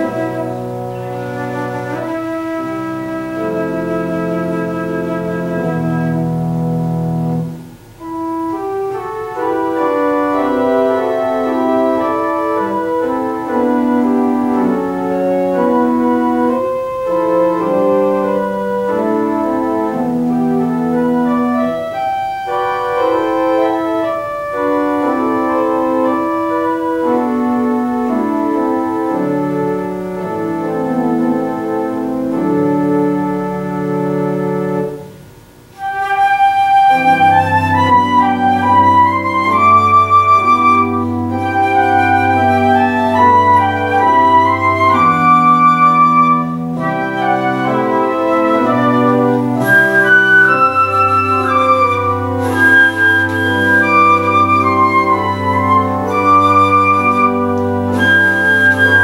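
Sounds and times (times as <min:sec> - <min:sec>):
organ playing held chords: 0:00.0 - 0:59.0.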